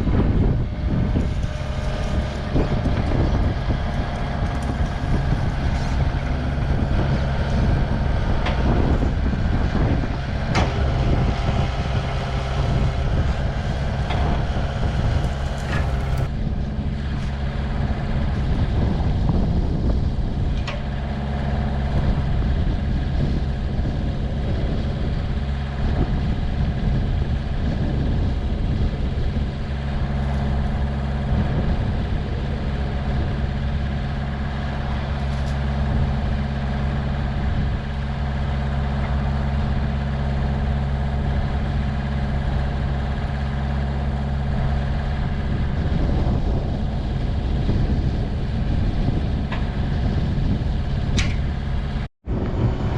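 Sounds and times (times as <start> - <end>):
heavy machine engine running: 0.0 - 52.9.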